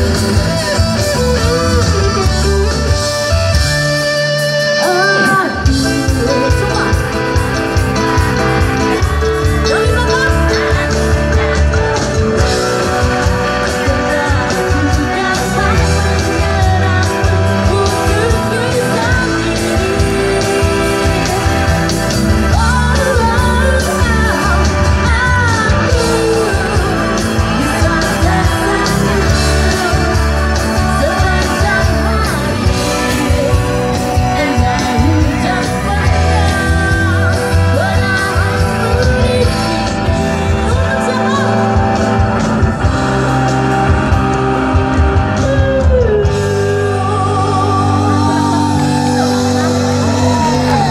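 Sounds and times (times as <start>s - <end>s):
lead singer singing: 0.0s - 50.9s
live pop-rock band: 0.0s - 50.9s.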